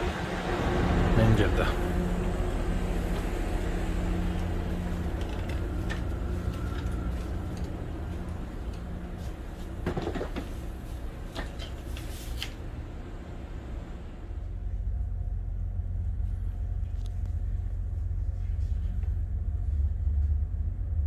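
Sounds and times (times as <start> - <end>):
faint hum: 0.0 - 21.0
train low rumble: 0.0 - 21.0.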